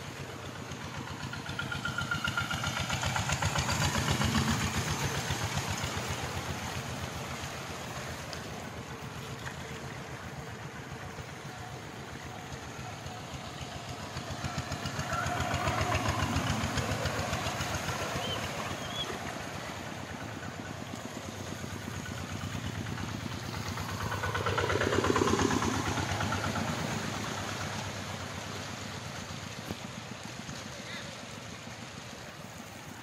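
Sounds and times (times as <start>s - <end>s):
diesel engines chugging: 0.0s - 33.0s.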